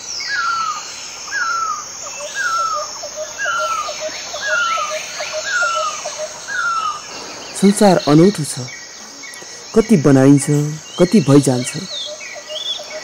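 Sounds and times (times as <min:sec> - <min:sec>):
high insect buzz: 0:00.0 - 0:13.0.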